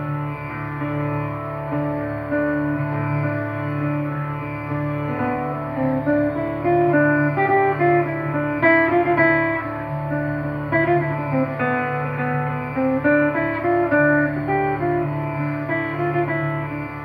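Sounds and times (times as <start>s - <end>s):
acoustic guitar picked melody: 0.0s - 17.0s.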